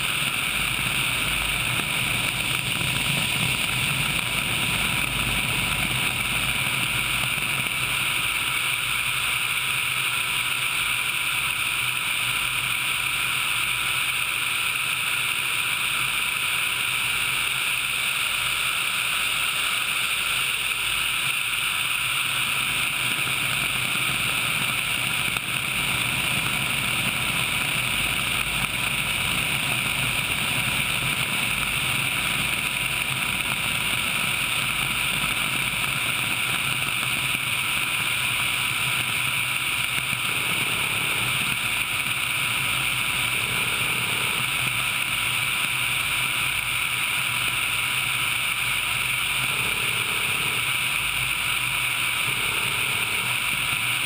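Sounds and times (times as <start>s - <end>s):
helicopter engines and rotor: 0.0s - 54.0s
thin steady whine: 0.0s - 54.0s.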